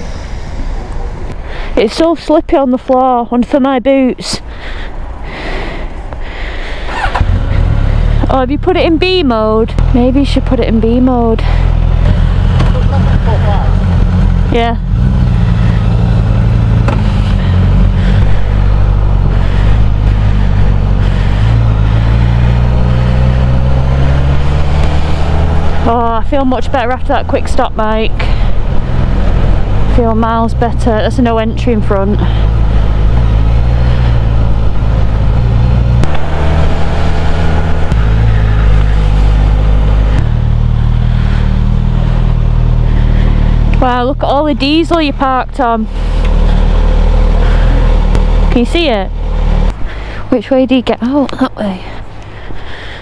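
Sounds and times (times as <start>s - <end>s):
motorcycle engine riding off: 6.9s - 51.1s.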